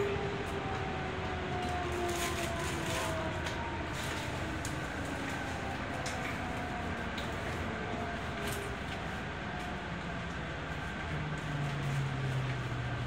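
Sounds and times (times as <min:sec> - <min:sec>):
faint motor whine: 0:00.0 - 0:13.0
train wheels rumbling on rails: 0:00.0 - 0:13.0.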